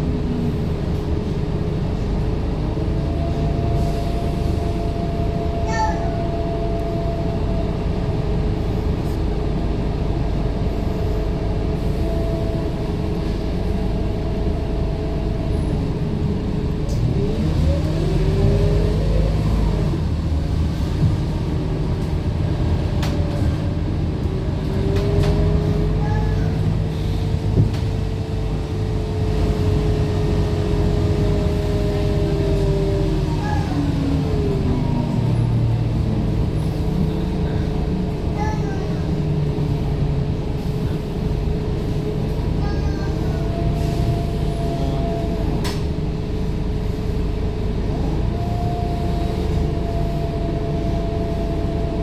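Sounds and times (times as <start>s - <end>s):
bus engine whine and rumble: 0.0s - 52.0s.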